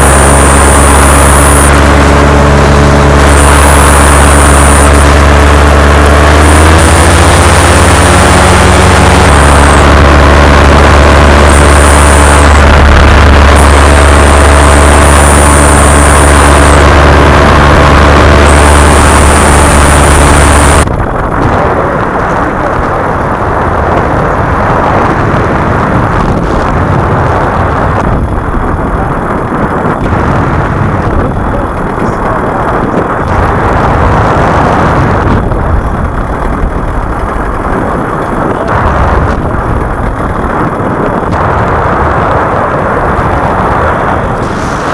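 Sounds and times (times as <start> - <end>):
high whine: 0.0 - 44.9
paramotor engine droning: 0.0 - 44.9
wind buffeting microphone: 0.0 - 44.9.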